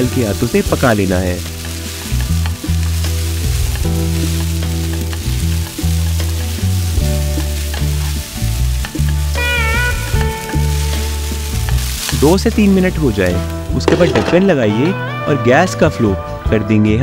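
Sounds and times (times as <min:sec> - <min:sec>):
food sizzling in hot oil: 0:00.0 - 0:15.8
background music with bass line: 0:00.0 - 0:17.0
spatula stirring and scraping: 0:00.4 - 0:14.5.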